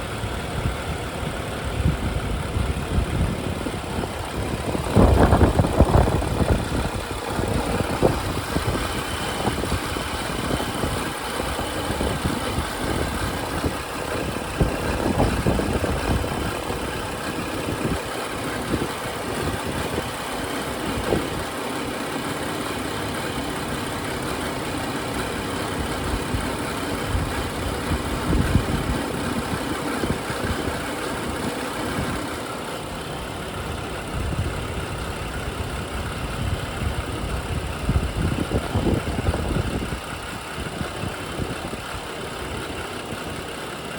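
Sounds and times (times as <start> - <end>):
car engine idling: 0.0 - 43.9
fuel injectors ticking: 0.0 - 43.9.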